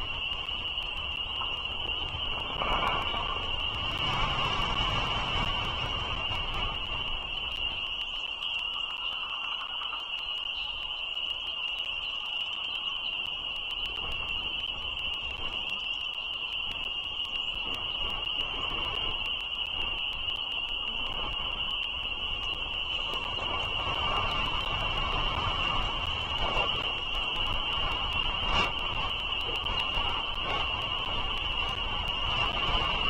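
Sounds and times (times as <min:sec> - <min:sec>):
frogs trilling: 0:00.0 - 0:33.0.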